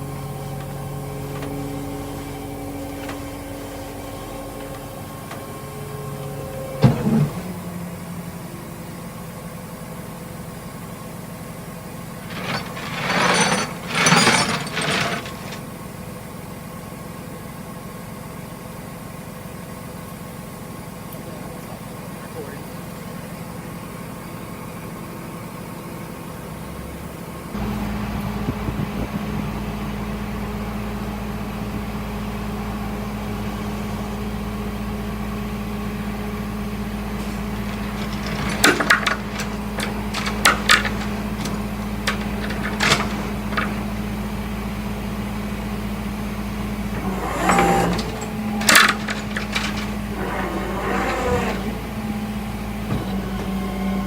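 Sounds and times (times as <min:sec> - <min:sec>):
vehicle engine idling: 0:00.0 - 0:13.2, 0:14.8 - 0:50.9.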